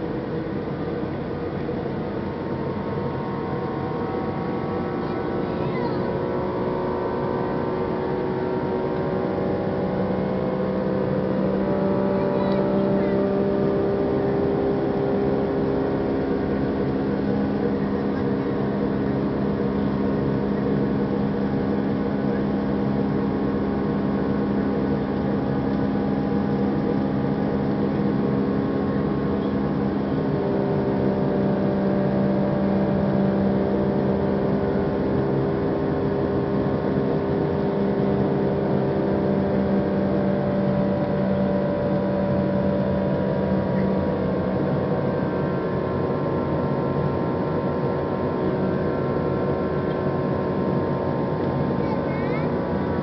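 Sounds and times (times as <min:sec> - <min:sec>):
jet engine and airflow drone: 0:00.0 - 0:53.0.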